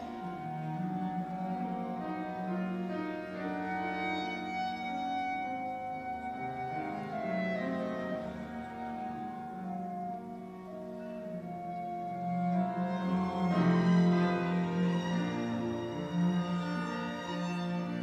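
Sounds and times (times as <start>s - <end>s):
cello: 0.0s - 18.0s
clarinet: 0.0s - 18.0s
piano: 0.0s - 18.0s.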